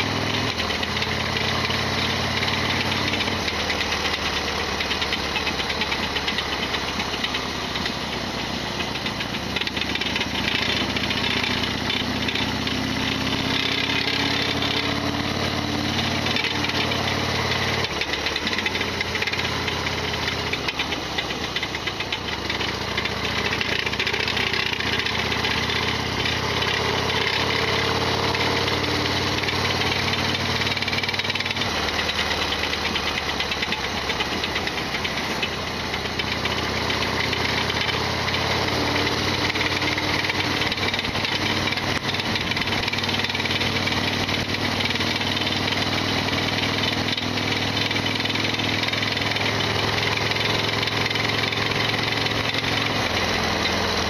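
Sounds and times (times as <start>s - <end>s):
loud mechanical rattle: 0.0s - 54.0s
motorcycle engine running: 0.0s - 54.0s.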